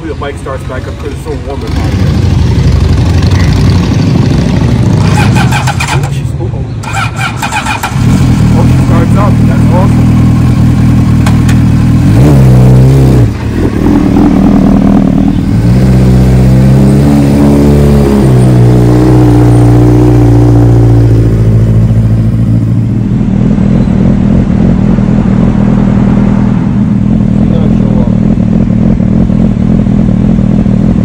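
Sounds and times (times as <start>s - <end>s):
motorcycle engine revving: 1.0s - 31.0s.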